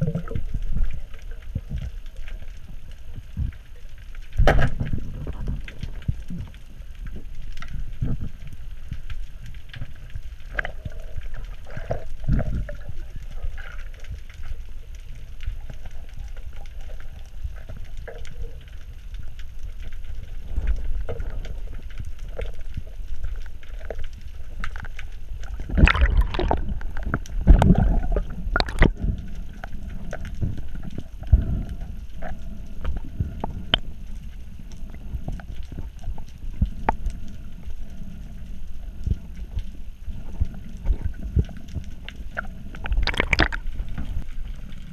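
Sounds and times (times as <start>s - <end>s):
underwater rumble: 0.0s - 44.9s
water gurgling: 0.0s - 44.9s.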